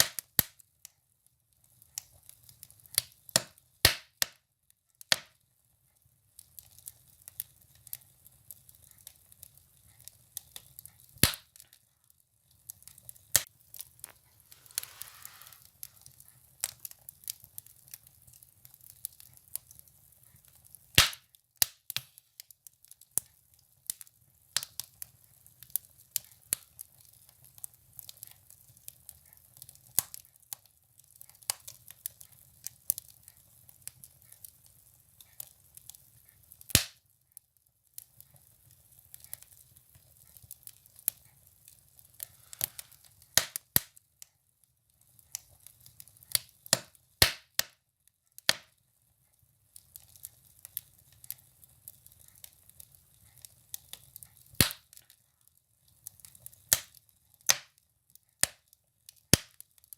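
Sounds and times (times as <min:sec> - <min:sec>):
firewood crackling and popping: 0:00.0 - 0:04.4, 0:06.2 - 0:59.9.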